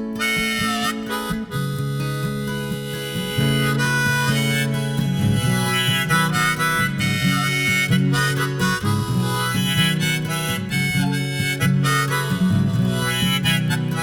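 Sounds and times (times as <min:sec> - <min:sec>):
instrumental melody of held notes: 0:00.0 - 0:14.0.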